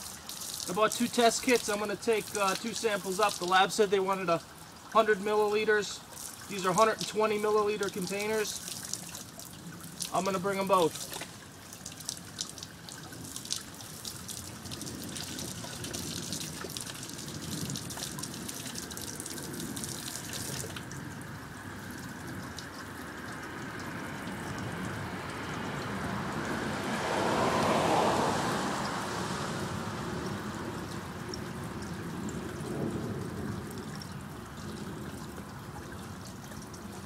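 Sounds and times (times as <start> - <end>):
water running from a pipe: 0.0 - 25.9, 30.2 - 37.0
water drips and splatters: 0.0 - 37.0.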